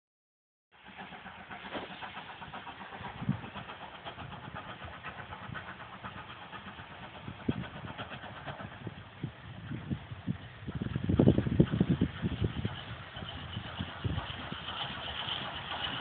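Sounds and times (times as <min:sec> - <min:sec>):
faint steam locomotive chuffs: 0:00.7 - 0:16.0.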